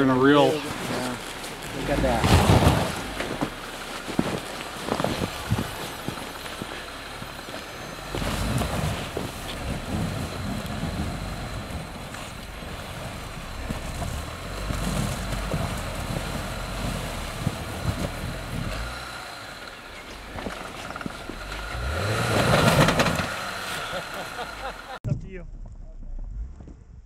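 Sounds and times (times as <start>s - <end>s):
tires spinning in snow: 0.0s - 25.0s
engine running under throttle: 1.7s - 25.0s.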